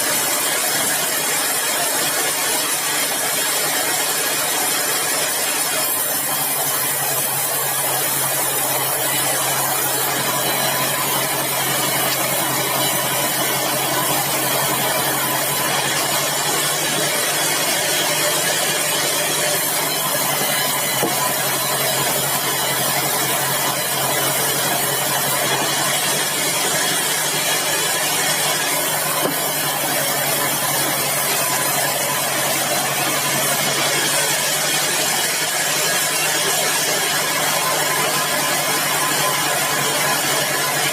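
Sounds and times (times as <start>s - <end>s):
sawmill machinery drone: 0.0s - 40.9s.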